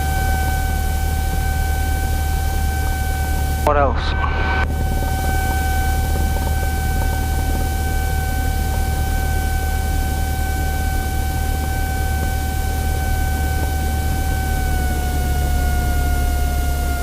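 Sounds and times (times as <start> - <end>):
high-pitched whine: 0.0 - 17.0
plane engine drone in cabin: 0.0 - 17.0.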